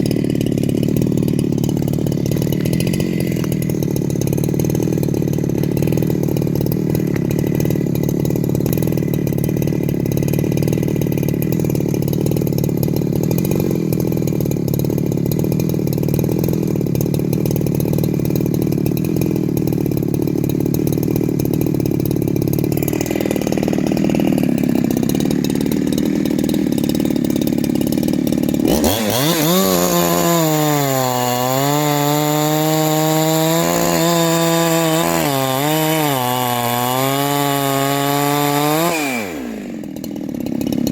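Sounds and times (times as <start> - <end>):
chainsaw engine running and revving: 0.0 - 40.9.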